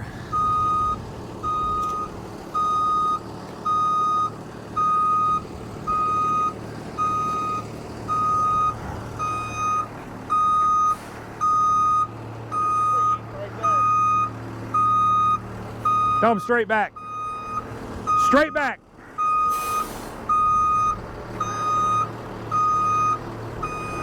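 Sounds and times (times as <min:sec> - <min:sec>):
diesel engine running: 0:00.0 - 0:24.0
truck backup alarm beeping: 0:00.2 - 0:24.0.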